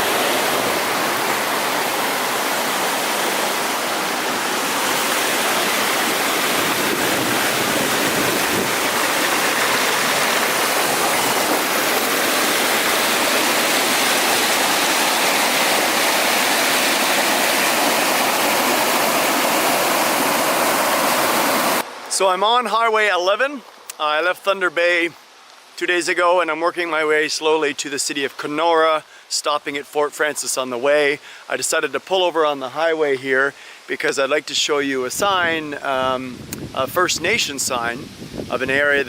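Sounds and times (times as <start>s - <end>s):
small waterfall rushing: 0.0s - 26.1s, 26.9s - 39.0s.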